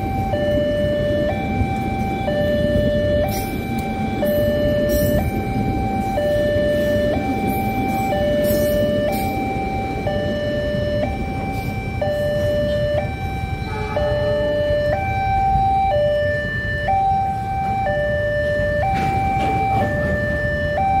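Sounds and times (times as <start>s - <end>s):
level-crossing two-tone alarm: 0.0s - 21.0s
train rumbling past: 0.0s - 21.0s.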